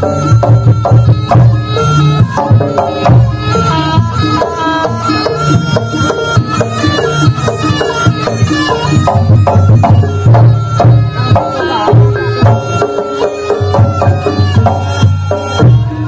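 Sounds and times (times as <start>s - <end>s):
hand drums beating: 0.0s - 16.0s
pitched melody: 0.0s - 16.0s.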